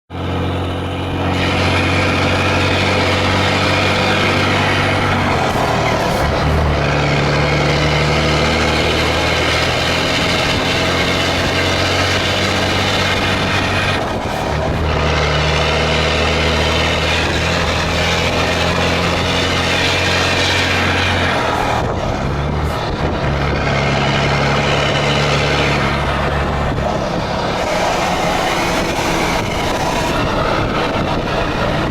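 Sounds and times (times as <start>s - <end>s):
truck diesel engine rumbling: 0.0s - 31.9s.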